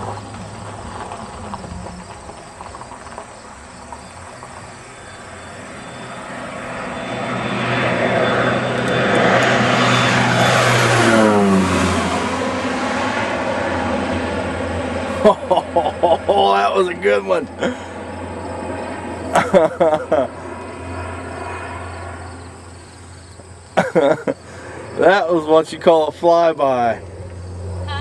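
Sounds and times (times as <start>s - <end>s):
propeller airplane flying overhead: 0.0s - 28.0s.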